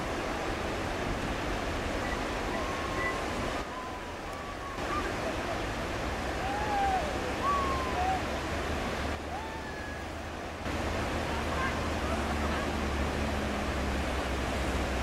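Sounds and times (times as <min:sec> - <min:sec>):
whitewater rapids rushing: 0:00.0 - 0:15.0.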